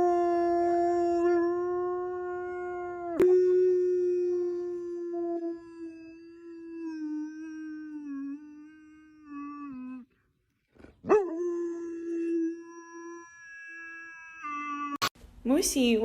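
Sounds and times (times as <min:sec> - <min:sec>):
dog howling: 0:00.0 - 0:10.2, 0:11.0 - 0:15.0.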